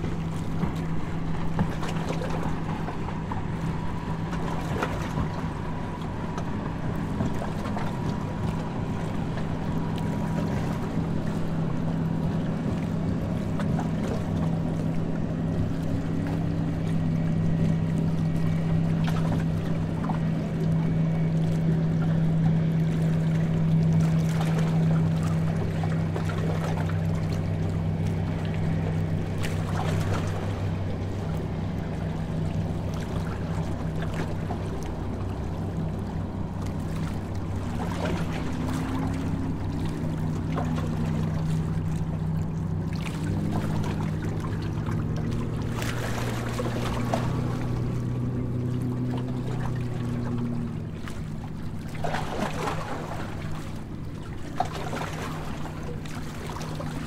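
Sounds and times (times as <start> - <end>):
boat engine drone: 0.0 - 57.0
water rushing along hull: 0.0 - 57.0.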